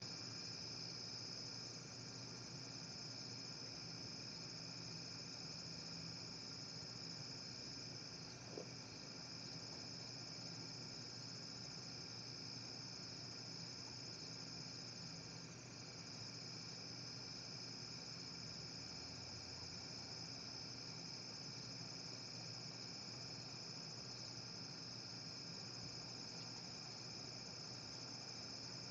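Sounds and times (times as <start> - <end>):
night insects chirring: 0.0 - 28.9.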